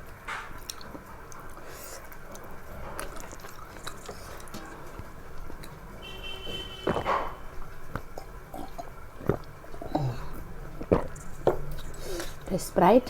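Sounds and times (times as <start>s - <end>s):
person chewing food: 0.0s - 12.5s.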